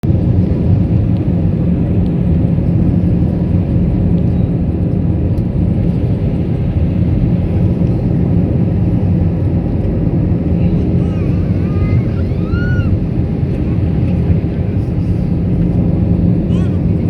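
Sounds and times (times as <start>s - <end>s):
aircraft engine and airflow rumble: 0.0s - 17.0s.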